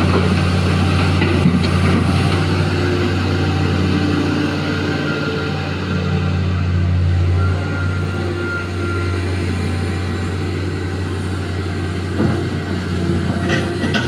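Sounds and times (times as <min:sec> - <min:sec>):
excavator diesel engine droning: 0:00.0 - 0:14.0.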